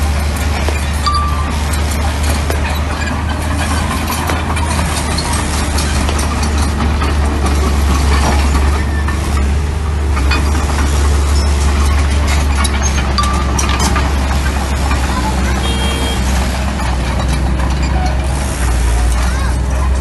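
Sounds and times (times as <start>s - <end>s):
diesel engine running: 0.0s - 20.0s
metal clanks and knocks: 0.0s - 20.0s.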